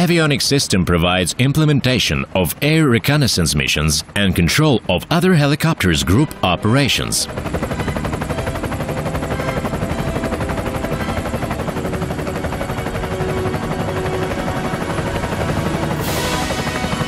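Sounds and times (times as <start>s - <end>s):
helicopter rotors chopping: 0.0s - 17.0s.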